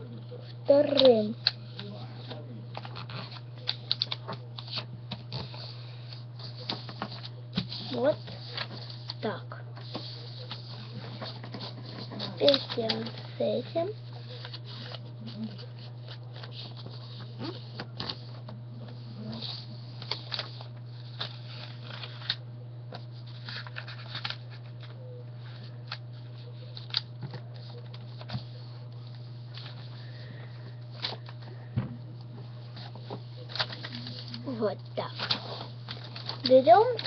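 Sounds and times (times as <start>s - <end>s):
low steady hum: 0.0s - 37.0s
paper being folded and creased: 0.7s - 29.9s, 32.8s - 37.0s.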